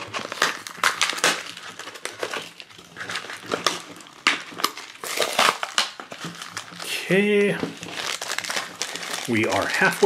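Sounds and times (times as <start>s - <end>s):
plastic and paper wrapping crinkling: 0.0s - 10.0s.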